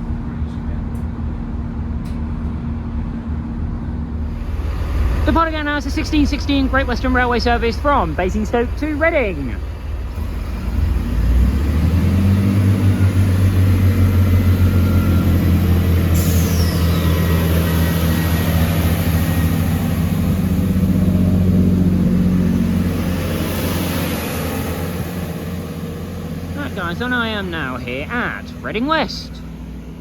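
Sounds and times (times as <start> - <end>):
diesel train engines droning: 0.0 - 30.0.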